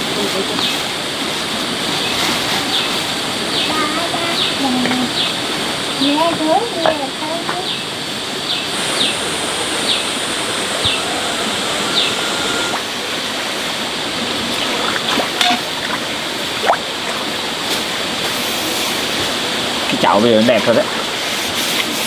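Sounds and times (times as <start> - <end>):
rush of falling water: 0.0 - 22.0.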